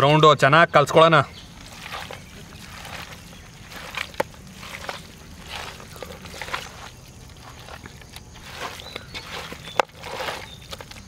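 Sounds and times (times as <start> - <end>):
hands squishing chicken in marinade: 1.3 - 11.0.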